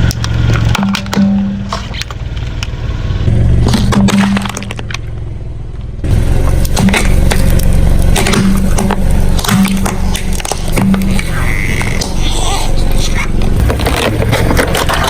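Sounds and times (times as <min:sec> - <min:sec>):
car engine drone: 0:00.0 - 0:15.0
things cracking under car tyres: 0:00.0 - 0:15.0.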